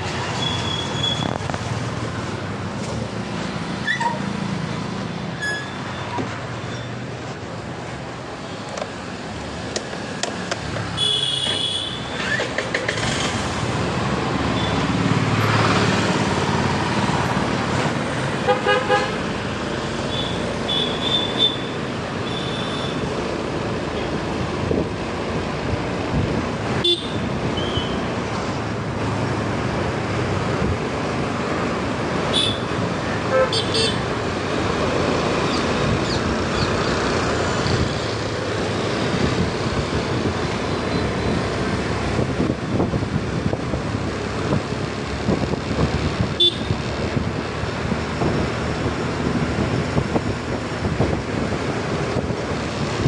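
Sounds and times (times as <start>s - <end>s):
wind and motorbike engine noise: 0.0s - 53.0s.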